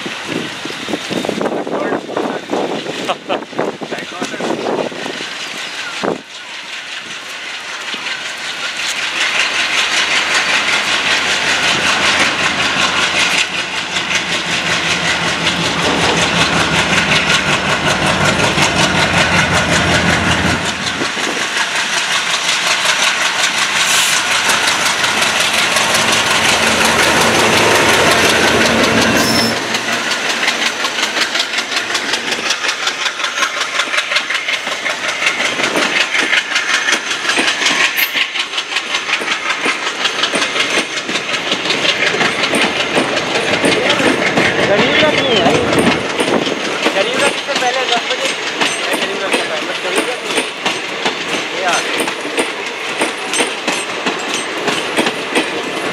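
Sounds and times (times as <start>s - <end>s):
diesel locomotive engine running hard: 0.0s - 55.9s
train wheels clattering on rails: 0.0s - 55.9s
coaches rolling clickety-clack: 0.3s - 55.9s.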